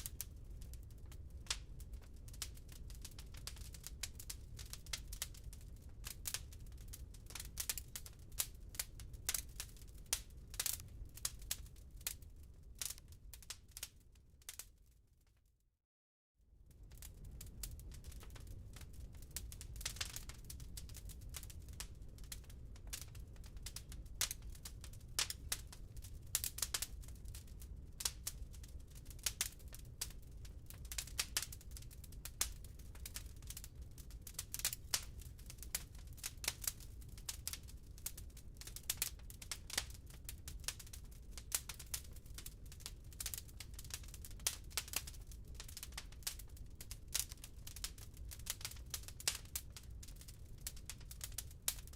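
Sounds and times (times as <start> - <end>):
wood fire crackling: 0.0 - 15.0, 16.6 - 51.9.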